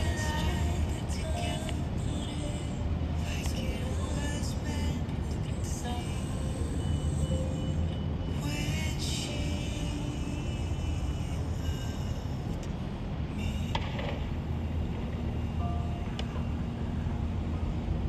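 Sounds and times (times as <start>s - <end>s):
distant road traffic rumble: 0.0s - 18.0s
faint instrumental music: 0.0s - 18.0s.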